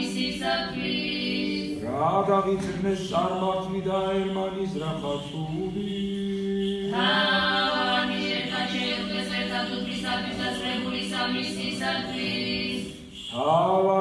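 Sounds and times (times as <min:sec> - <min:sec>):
choir singing liturgical chant: 0:00.0 - 0:14.0.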